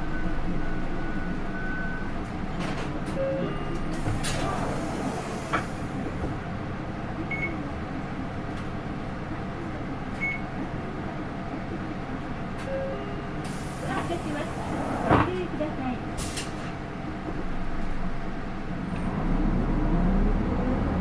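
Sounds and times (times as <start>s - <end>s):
bus engine and road drone: 0.0s - 21.0s.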